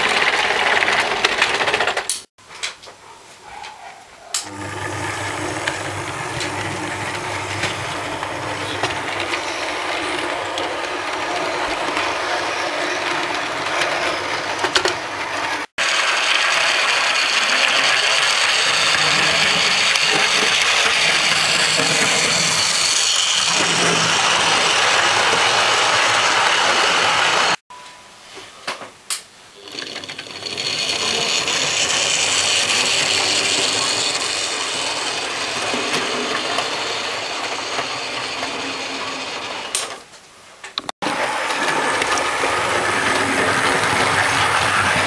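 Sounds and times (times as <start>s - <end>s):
wheels on rails: 0.0s - 2.3s, 4.3s - 27.6s, 29.6s - 45.0s
model train motor whirring: 4.4s - 27.6s, 29.6s - 40.0s, 41.1s - 45.0s.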